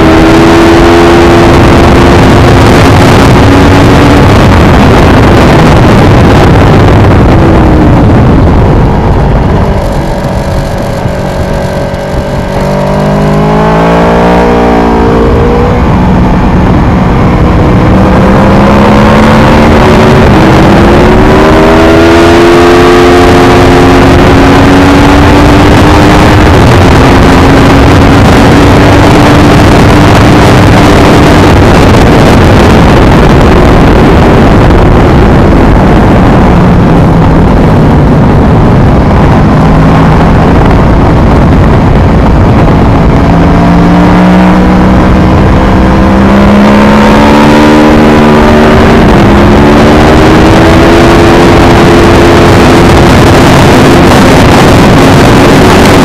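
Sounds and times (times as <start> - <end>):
motorcycle engine: 0.0 - 56.0
wind noise: 0.0 - 56.0.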